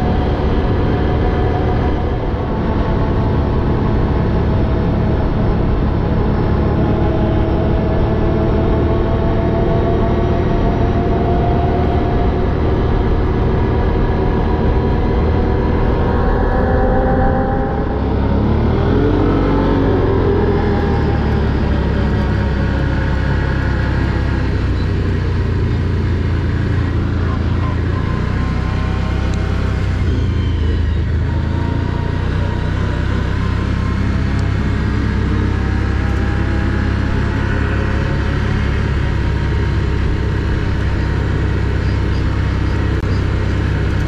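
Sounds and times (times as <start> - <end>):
quad engine running: 0.0 - 44.0
steady low rumble: 0.0 - 44.0.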